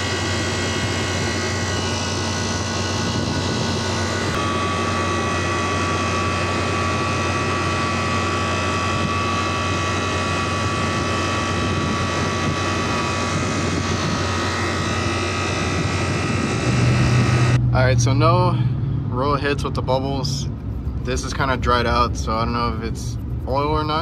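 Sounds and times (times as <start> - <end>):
compressor and fan drone: 0.0 - 24.0
thin steady whine: 0.0 - 24.0.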